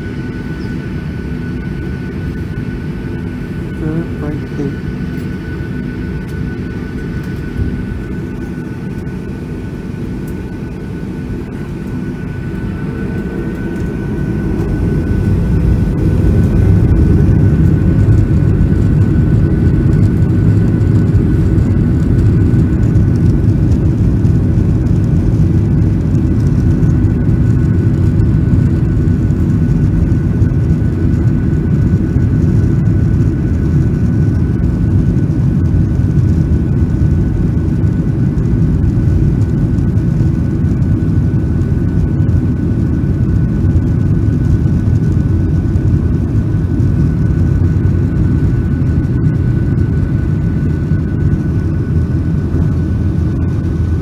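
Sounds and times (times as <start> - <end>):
jet engine rumble and whine: 0.0 - 54.0.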